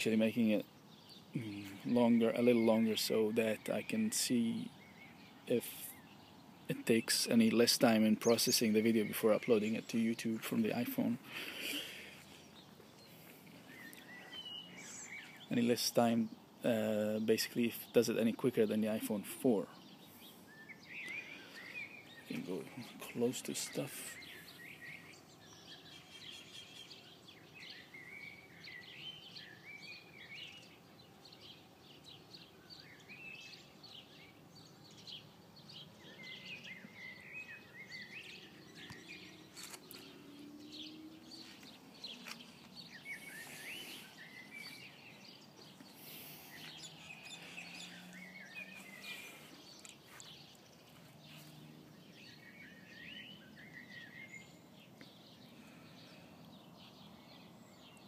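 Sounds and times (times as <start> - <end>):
birds chirping: 0.0 - 58.0
outdoor background hiss: 0.0 - 58.0.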